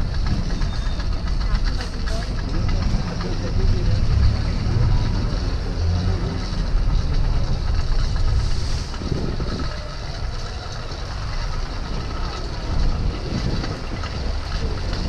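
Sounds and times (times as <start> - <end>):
motorized bicycle engine running: 0.0 - 15.0.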